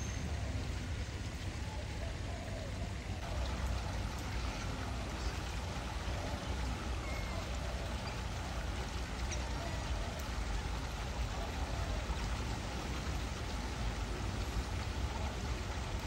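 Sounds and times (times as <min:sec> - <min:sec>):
light rain hissing: 0:00.0 - 0:16.0.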